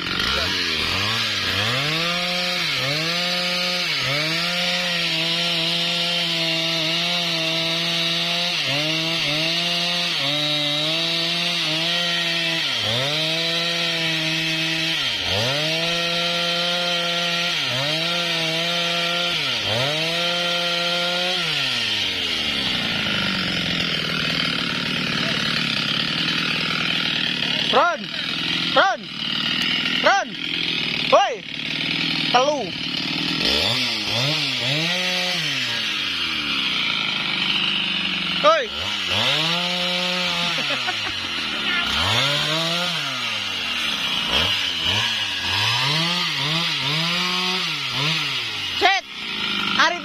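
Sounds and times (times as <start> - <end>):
chainsaw cutting log: 0.0 - 50.0.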